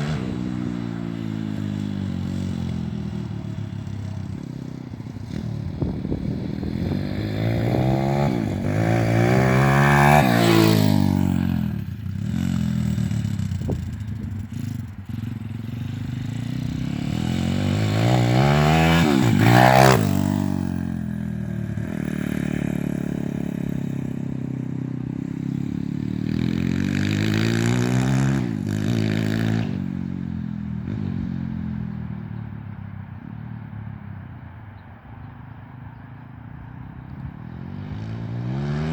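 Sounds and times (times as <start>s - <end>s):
motorbike engine revving: 0.0s - 32.1s, 37.4s - 38.9s.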